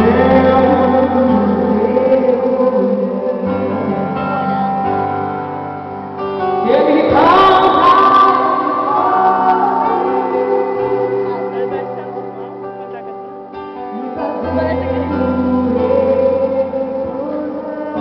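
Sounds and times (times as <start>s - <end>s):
woman singing: 0.0s - 5.0s, 6.6s - 12.4s, 13.9s - 18.0s
live gospel band playing: 0.0s - 18.0s.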